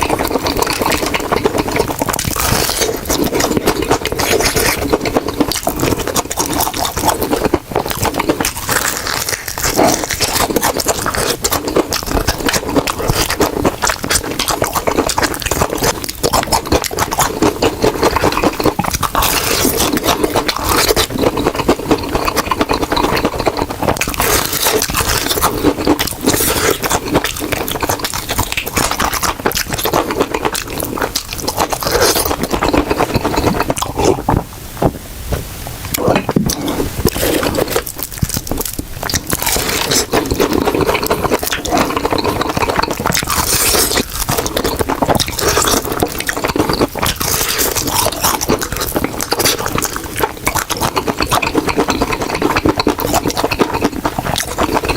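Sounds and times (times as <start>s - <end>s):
fried chicken being chewed: 0.0s - 35.0s, 35.8s - 54.9s.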